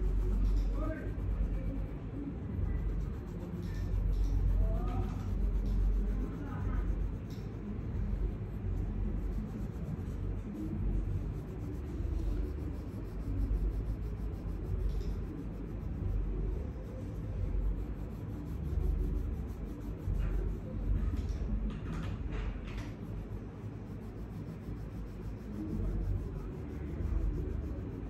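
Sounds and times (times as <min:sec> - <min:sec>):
pencil scribbling on paper: 0:00.0 - 0:21.5, 0:22.8 - 0:28.0.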